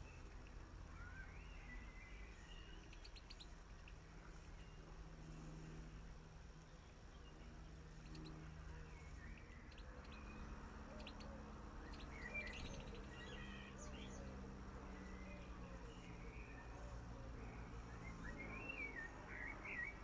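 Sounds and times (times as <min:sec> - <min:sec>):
faint low hum: 0:00.0 - 0:20.0
small birds chirping: 0:00.0 - 0:20.0.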